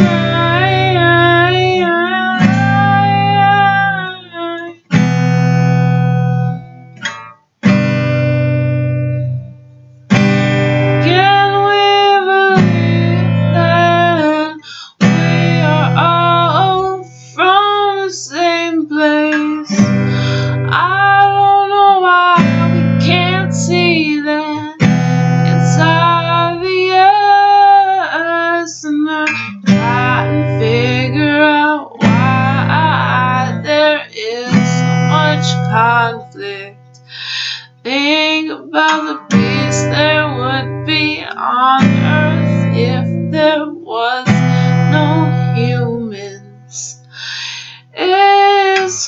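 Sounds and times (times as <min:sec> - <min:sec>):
woman singing: 0:00.0 - 0:04.9, 0:10.7 - 0:49.0
strummed acoustic guitar: 0:00.0 - 0:49.0.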